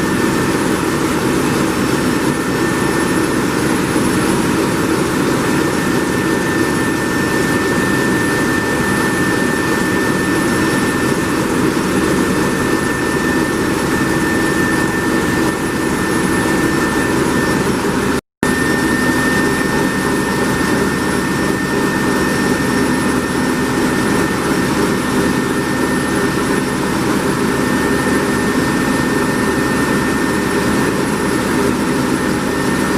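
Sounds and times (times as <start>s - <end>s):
steady high whine: 0.0s - 32.9s.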